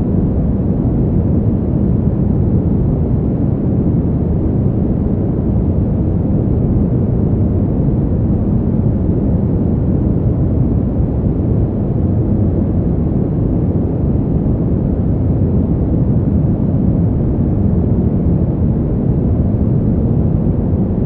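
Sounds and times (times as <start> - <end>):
deep wind rumble: 0.0 - 21.0.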